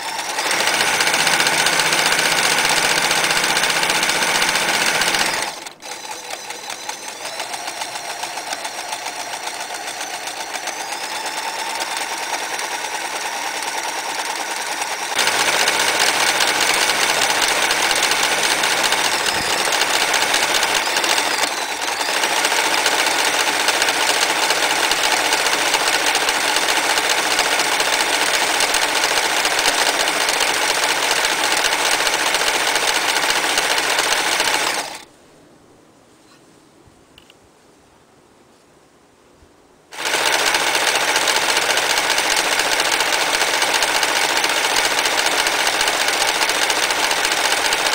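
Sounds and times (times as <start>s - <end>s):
electric sewing machine stitching: 0.0s - 35.1s, 40.0s - 47.9s.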